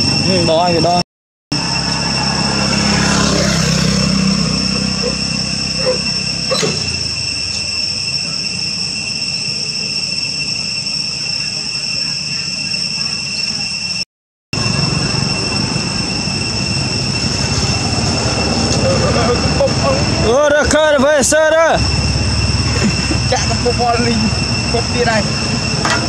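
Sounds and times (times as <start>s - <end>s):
low engine rumble: 0.0s - 13.6s, 14.6s - 26.0s
high-pitched insect drone: 0.0s - 26.0s.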